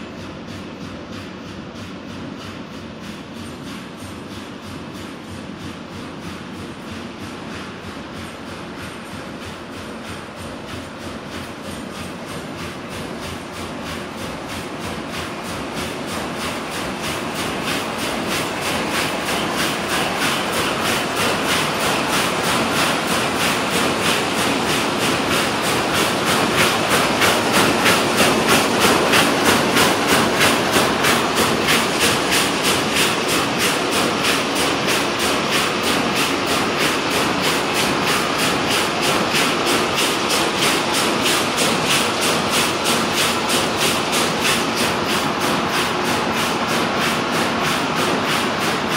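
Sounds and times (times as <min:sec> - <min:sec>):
weaving loom clattering: 0:03.1 - 0:48.9.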